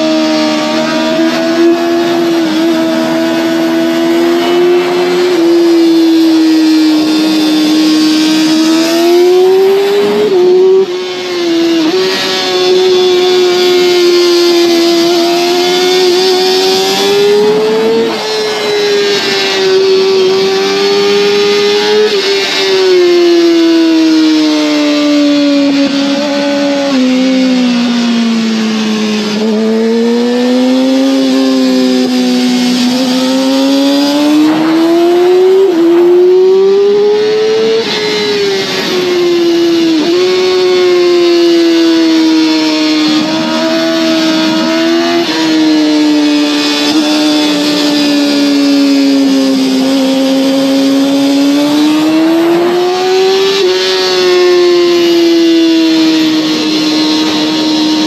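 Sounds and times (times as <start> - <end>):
sport bike engine and exhaust: 0.0 - 58.0.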